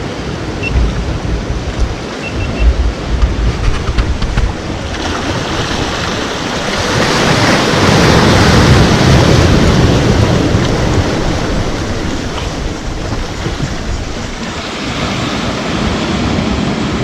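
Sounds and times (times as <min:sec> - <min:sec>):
ocean waves breaking: 0:00.0 - 0:17.0
wind buffeting microphone: 0:00.0 - 0:17.0.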